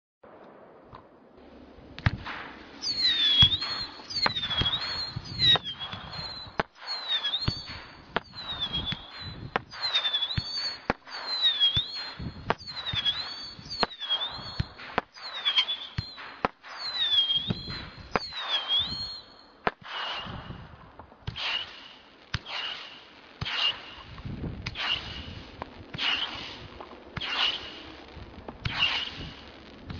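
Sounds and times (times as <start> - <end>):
firework bangs: 0.3 - 29.9
whistling firework shots: 2.0 - 29.9.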